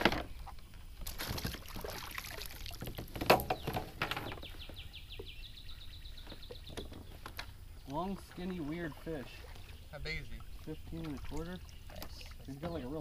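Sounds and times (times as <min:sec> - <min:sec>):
water splashing: 0:00.0 - 0:04.4, 0:06.4 - 0:13.0.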